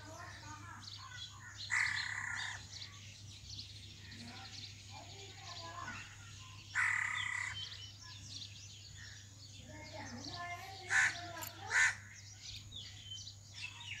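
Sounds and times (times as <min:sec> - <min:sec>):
harsh bird calls: 0:00.0 - 0:14.0
small birds chirping: 0:00.0 - 0:14.0.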